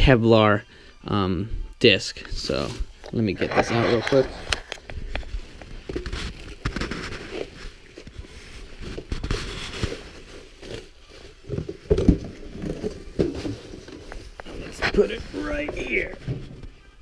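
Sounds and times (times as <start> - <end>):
bubble wrap and cardboard rustling: 2.3 - 17.0.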